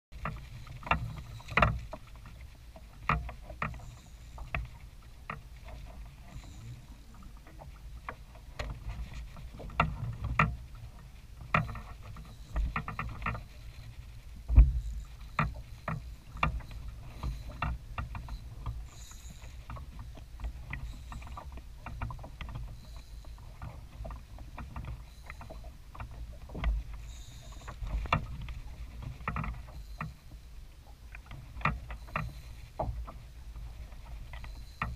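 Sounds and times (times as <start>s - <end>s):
low steady rumble: 0.1s - 34.8s
water lapping against kayak hull: 0.1s - 34.9s.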